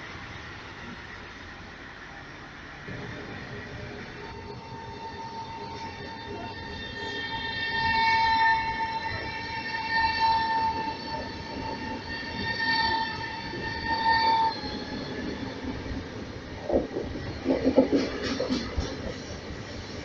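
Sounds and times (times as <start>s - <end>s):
electric train whine: 0.0s - 20.0s
train running gear rumble: 2.9s - 20.0s.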